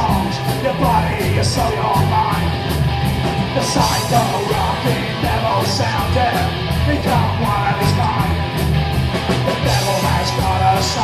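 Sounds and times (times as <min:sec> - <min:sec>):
distorted electric guitars: 0:00.0 - 0:11.0
drums: 0:00.0 - 0:11.0
psychobilly band playing live: 0:00.0 - 0:11.0.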